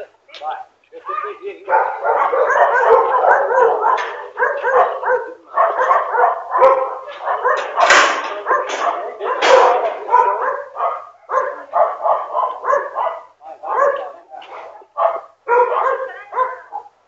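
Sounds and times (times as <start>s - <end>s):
dog barking and yipping: 1.7s - 17.0s.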